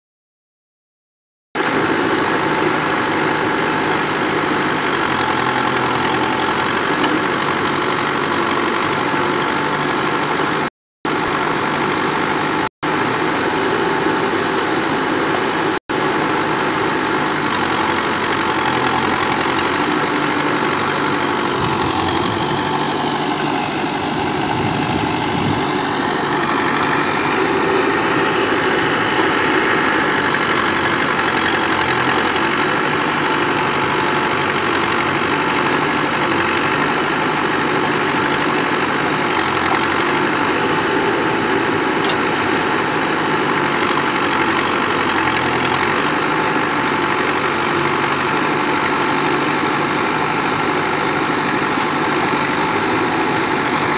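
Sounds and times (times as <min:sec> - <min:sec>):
diesel engine running: 0:01.6 - 0:53.9
backhoe digging soil: 0:01.8 - 0:10.6, 0:16.0 - 0:53.9.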